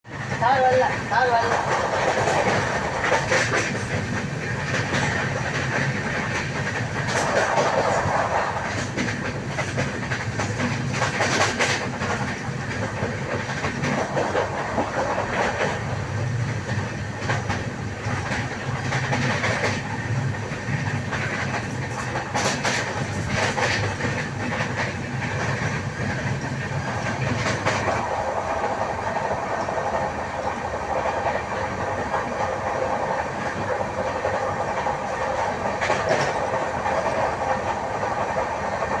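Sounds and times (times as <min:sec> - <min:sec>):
train coaches clickety-clack: 0:00.0 - 0:39.0.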